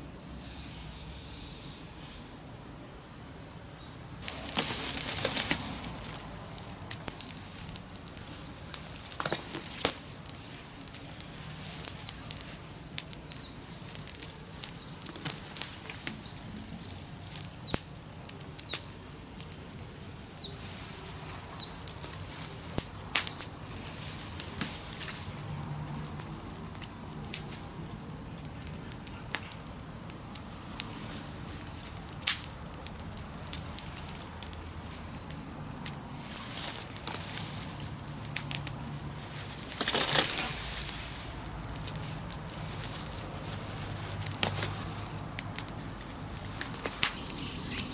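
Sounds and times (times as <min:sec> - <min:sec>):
campfire wood crackling: 0:02.3 - 0:47.9.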